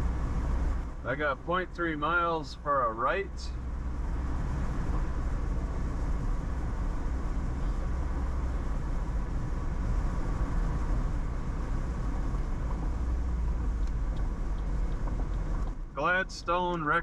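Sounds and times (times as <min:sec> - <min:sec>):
vehicle interior road rumble: 0:00.0 - 0:17.0.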